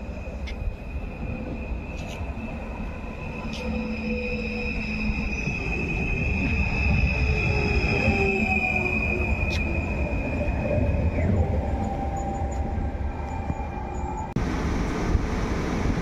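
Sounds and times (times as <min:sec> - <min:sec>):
steady rail rumble: 0:00.0 - 0:16.0
high wheel squeal: 0:00.2 - 0:14.4.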